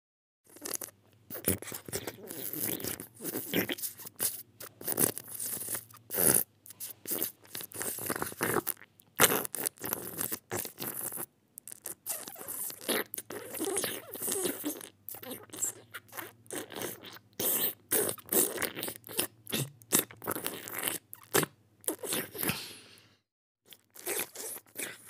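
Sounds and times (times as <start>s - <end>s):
mouth chewing and crunching food: 0.5s - 22.8s, 23.7s - 25.0s.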